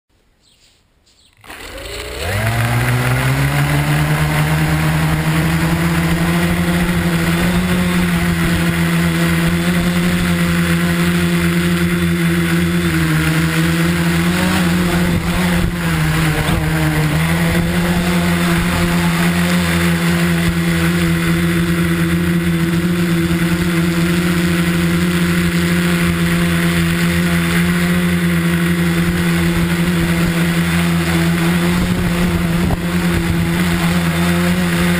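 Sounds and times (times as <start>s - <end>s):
drone motors and propellers whining: 1.3s - 34.9s.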